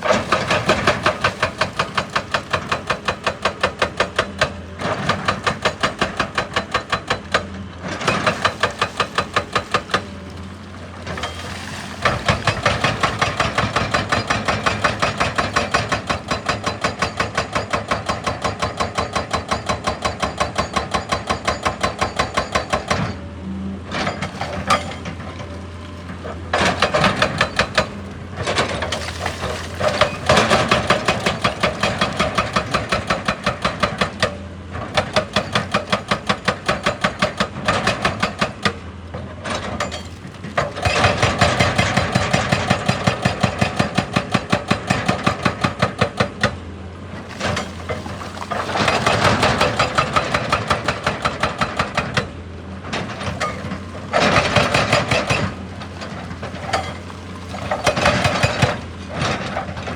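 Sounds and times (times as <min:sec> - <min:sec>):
hydraulic breaker hammering: 0:00.0 - 0:23.2, 0:24.1 - 0:38.9, 0:39.6 - 0:46.6, 0:47.2 - 0:52.4, 0:53.0 - 0:59.9
excavator engine hum: 0:00.0 - 0:59.9.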